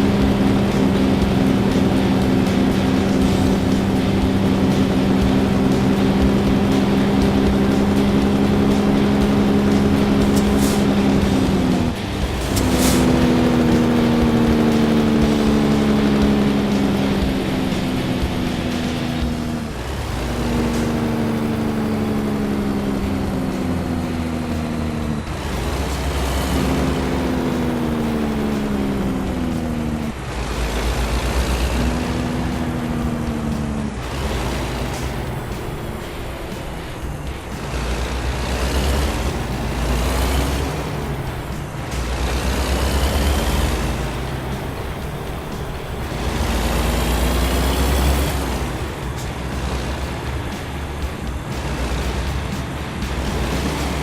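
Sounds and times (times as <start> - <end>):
diesel truck engine running: 0.0 - 54.0
road noise: 0.0 - 54.0.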